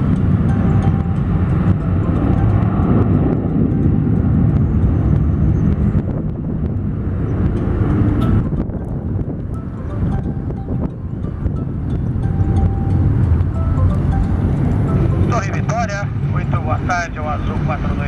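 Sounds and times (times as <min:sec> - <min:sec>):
jet engines deep rumble: 0:00.0 - 0:18.0.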